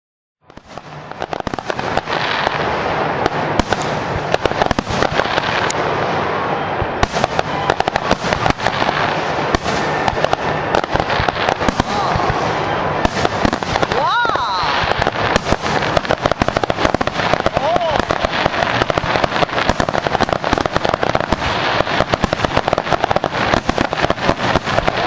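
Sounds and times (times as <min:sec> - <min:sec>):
fireworks bangs and crackling: 0:00.4 - 0:25.0.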